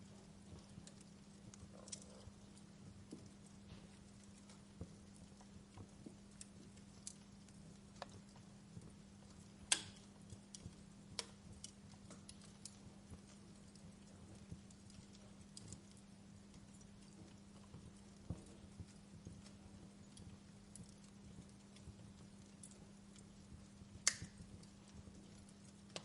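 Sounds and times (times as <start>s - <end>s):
faint low hum: 0.0s - 26.0s
wood fire crackling: 0.0s - 26.0s.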